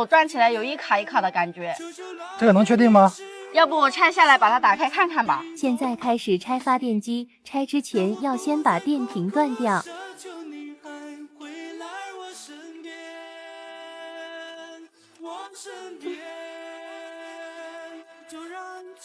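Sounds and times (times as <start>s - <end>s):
sung vocal with long notes: 0.0s - 6.1s, 7.9s - 19.0s.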